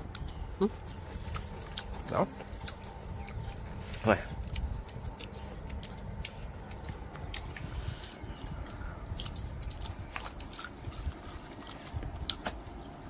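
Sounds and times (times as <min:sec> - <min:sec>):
people chewing crisp fruit: 0:00.0 - 0:13.0.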